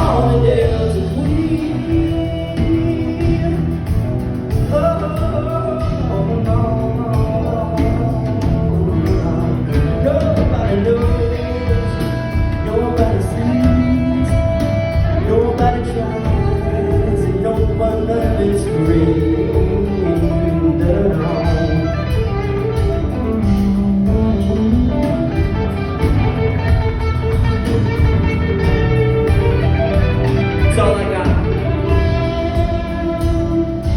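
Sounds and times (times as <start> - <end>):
bending melodic lead line: 0.0 - 33.9
country band playing a ballad: 0.0 - 33.9.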